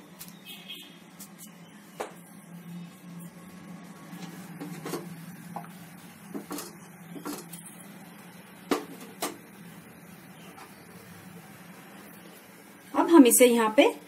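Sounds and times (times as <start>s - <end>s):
low steady hum: 0.0s - 14.0s
milk boiling in a pan: 2.2s - 14.0s.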